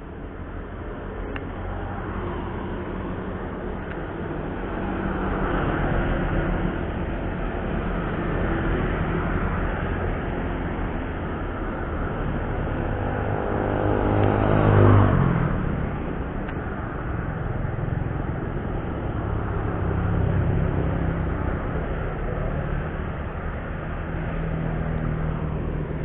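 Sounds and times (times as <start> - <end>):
low traffic hum: 0.0 - 26.0
vehicle passing: 1.2 - 26.0.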